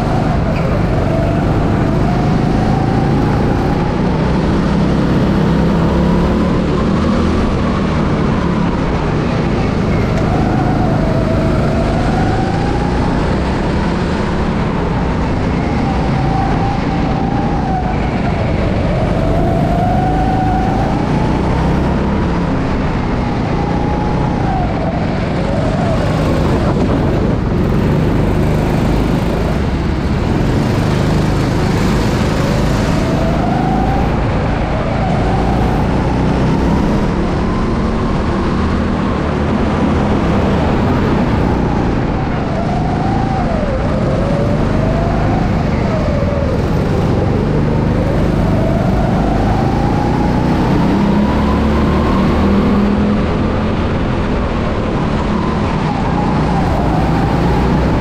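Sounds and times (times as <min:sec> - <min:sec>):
go-kart engine revving: 0:00.0 - 0:58.0.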